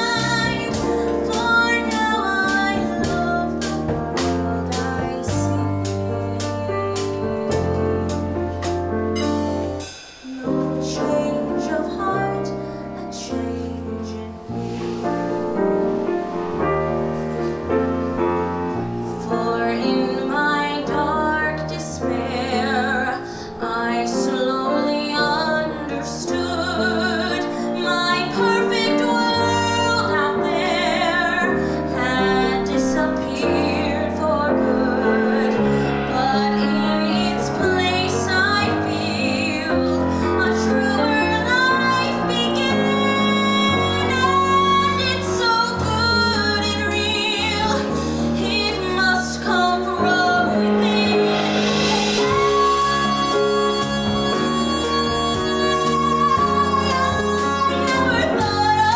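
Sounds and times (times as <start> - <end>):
woman singing a slow ballad: 0.0 - 8.8, 10.2 - 15.0, 19.0 - 58.9
bass: 0.0 - 58.9
drums: 0.0 - 58.9.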